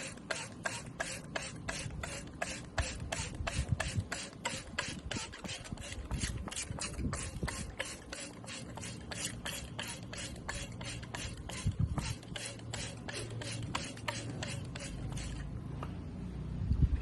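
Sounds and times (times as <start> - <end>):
spray bottle squirting water: 0.0 - 15.5.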